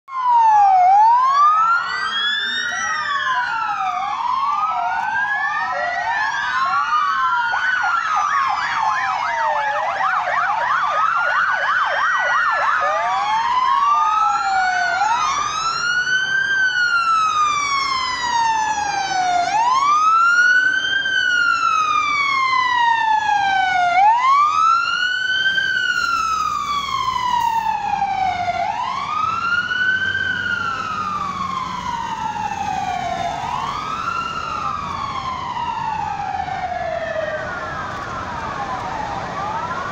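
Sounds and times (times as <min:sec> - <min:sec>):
wailing sirens: 0:00.0 - 0:39.9
fast yelping siren: 0:00.1 - 0:39.9.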